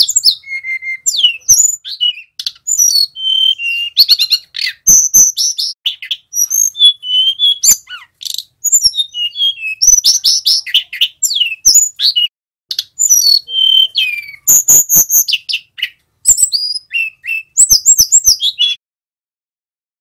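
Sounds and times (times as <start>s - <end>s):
bird singing whistled notes and trills: 0.0s - 18.8s.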